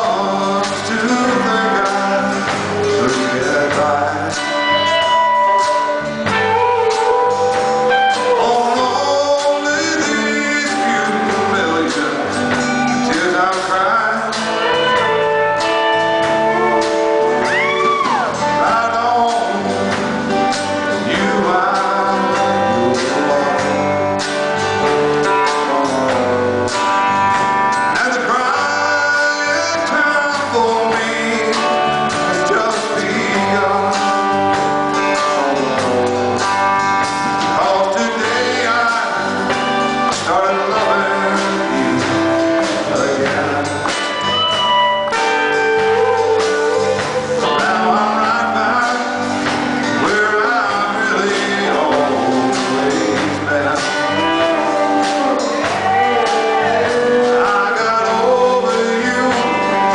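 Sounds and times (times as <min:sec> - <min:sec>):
live rock band playing: 0:00.0 - 0:59.9
man singing: 0:00.0 - 0:59.9.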